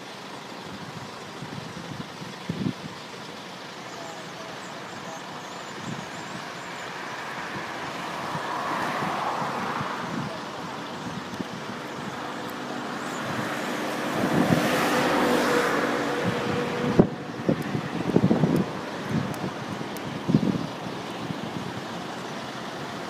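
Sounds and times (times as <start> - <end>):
road traffic passing: 0.0 - 23.0
steady engine hum: 0.0 - 23.0
wind buffeting microphone: 0.6 - 3.0, 5.7 - 6.6, 7.4 - 23.0.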